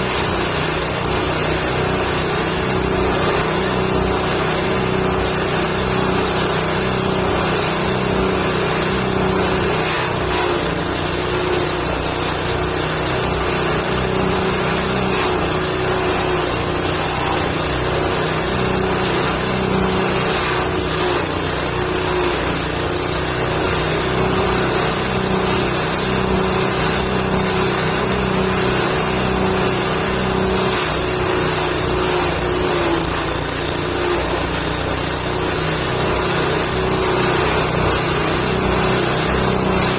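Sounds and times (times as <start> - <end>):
forage chopper running: 0.0 - 39.9.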